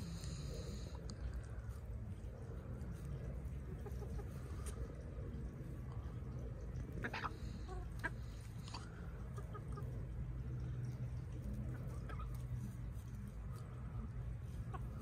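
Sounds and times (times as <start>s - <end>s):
hens clucking softly: 0.0s - 15.0s
low steady rumble: 0.0s - 15.0s.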